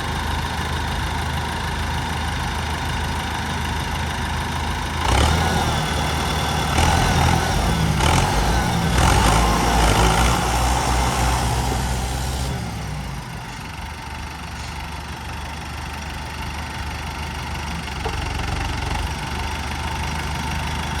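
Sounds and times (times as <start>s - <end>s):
tractor diesel engine: 0.0s - 21.0s.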